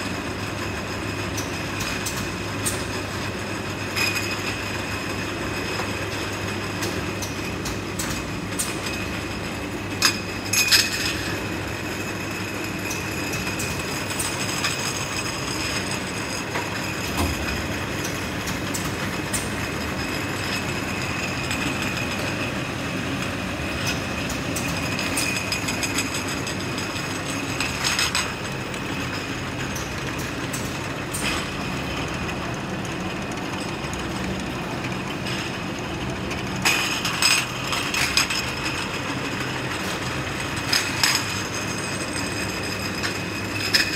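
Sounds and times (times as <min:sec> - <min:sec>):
machinery rattle and hum: 0:00.0 - 0:43.9.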